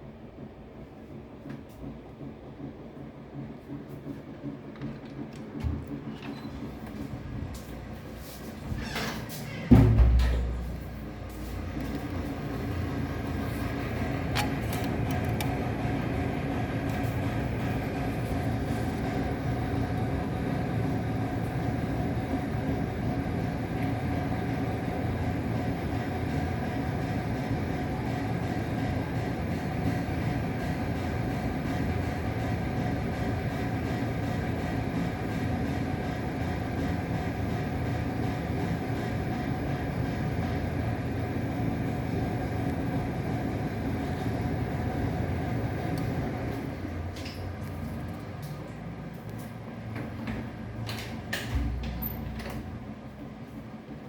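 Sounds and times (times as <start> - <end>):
low mechanical rumble with hum: 0.0 - 54.0.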